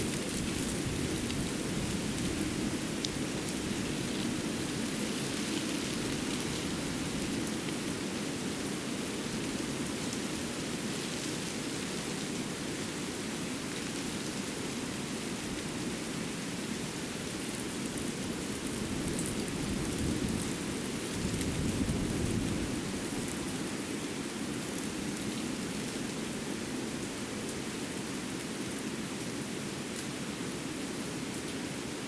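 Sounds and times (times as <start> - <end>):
forest rushing hiss: 0.0 - 32.0.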